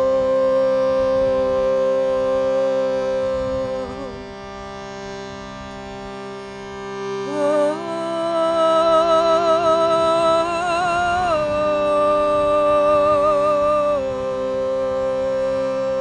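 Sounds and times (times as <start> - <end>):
reed drone: 0.0 - 16.0.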